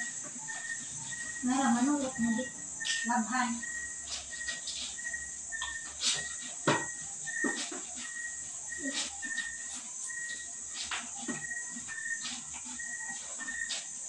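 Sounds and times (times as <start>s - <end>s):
high insect hiss: 0.0s - 14.0s.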